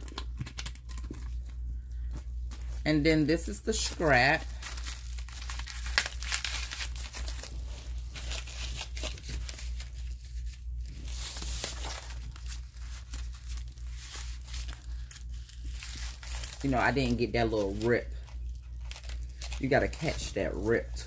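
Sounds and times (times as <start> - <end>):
paper crinkling and tearing: 2.5 - 21.0.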